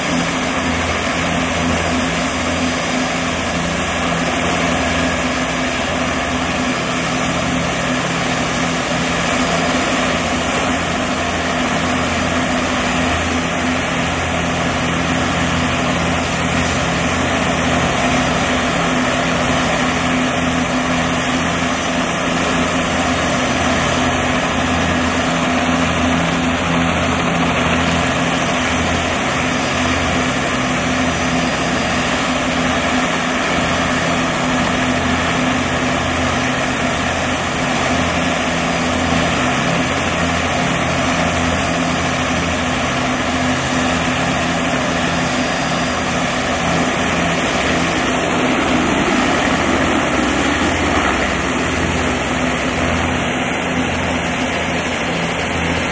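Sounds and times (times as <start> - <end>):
helicopter rotors pulsing: 0.0 - 55.9
helicopter turbine whine: 0.0 - 55.9.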